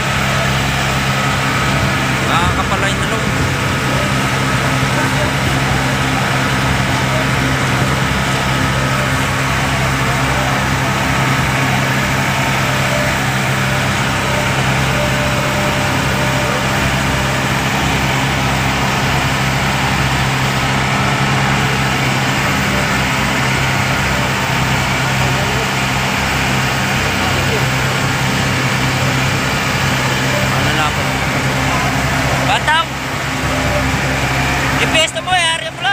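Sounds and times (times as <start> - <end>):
boat engine droning: 0.0 - 35.9
water rushing along hull: 0.0 - 35.9.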